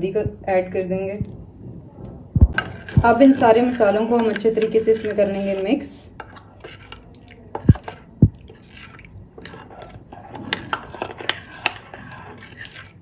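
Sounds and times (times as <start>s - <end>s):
spoon stirring wet paste: 2.6s - 13.0s.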